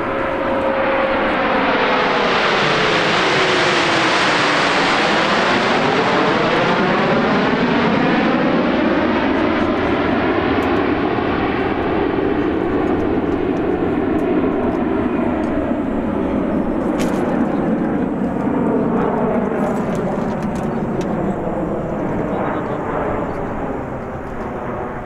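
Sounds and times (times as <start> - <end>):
jets passing overhead: 0.0 - 25.0.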